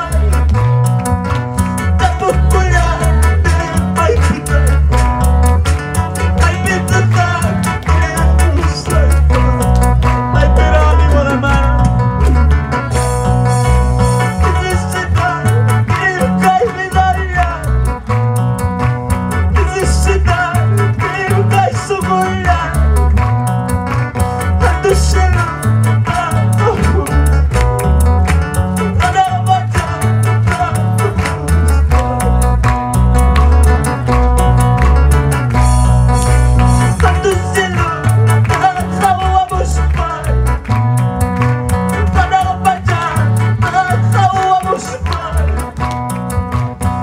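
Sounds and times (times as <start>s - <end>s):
bass notes: 0.0s - 47.0s
electric guitar melody: 0.0s - 47.0s
steady drum beat: 0.0s - 47.0s.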